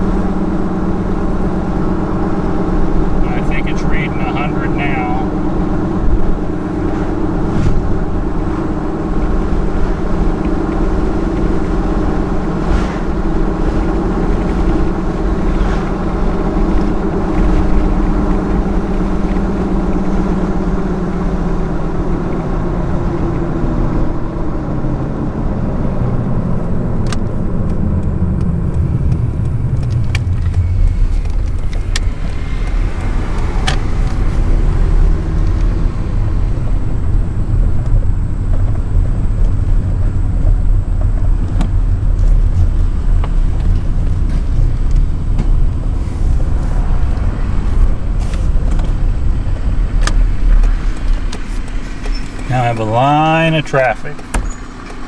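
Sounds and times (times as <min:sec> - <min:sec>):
road noise inside cab: 0:00.0 - 0:55.0
truck engine drone: 0:00.0 - 0:55.0.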